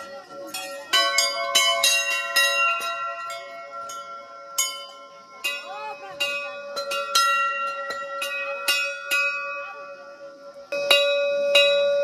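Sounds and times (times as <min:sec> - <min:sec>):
temple bells ringing: 0:00.0 - 0:12.0.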